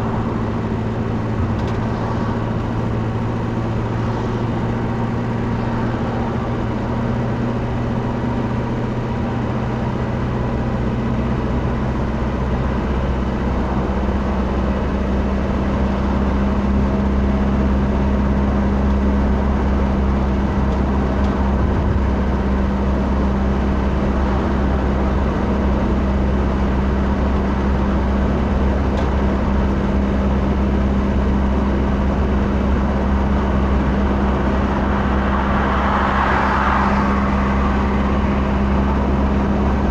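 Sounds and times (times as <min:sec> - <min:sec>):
road noise: 0:00.0 - 0:39.9
vehicle engine drone: 0:00.0 - 0:39.9.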